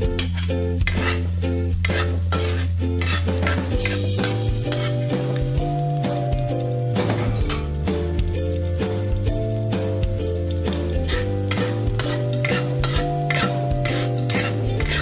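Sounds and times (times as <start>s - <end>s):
background music: 0.0s - 15.0s
shallots sizzling in hot oil: 0.0s - 15.0s
utensil scraping metal wok: 0.0s - 15.0s.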